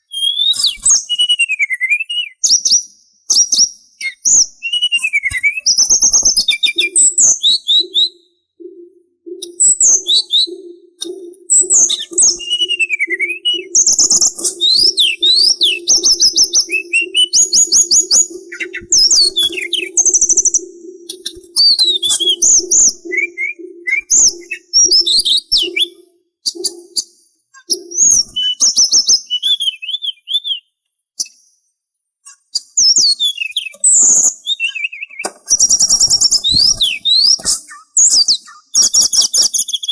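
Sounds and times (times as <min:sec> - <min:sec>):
songbird whistling and trilling: 0:00.0 - 0:31.5, 0:32.3 - 0:39.9.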